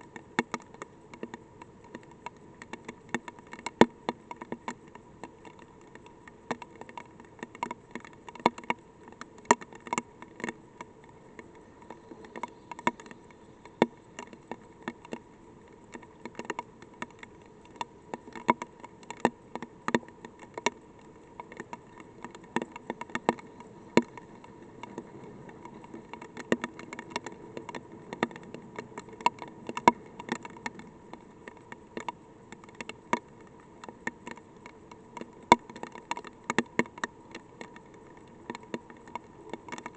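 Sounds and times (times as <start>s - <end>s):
raindrops tapping on microphone: 0.0s - 39.9s
steady buzzing hum: 0.0s - 39.9s.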